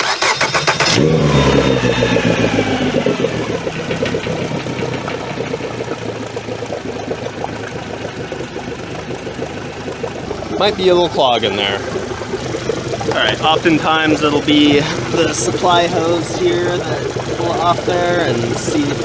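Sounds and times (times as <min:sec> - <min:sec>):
outboard motor idling fast: 0:00.0 - 0:19.0
outboard motor starter cranking: 0:00.0 - 0:19.0.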